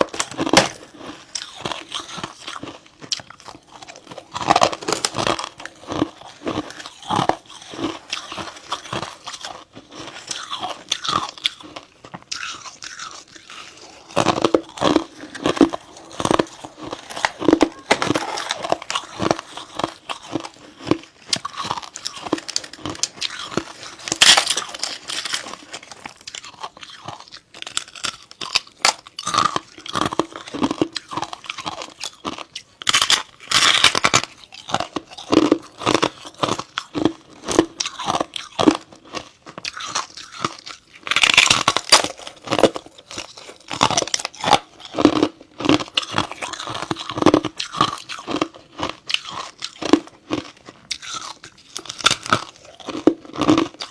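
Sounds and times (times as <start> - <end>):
crunching and chewing frost: 0.0 - 53.9.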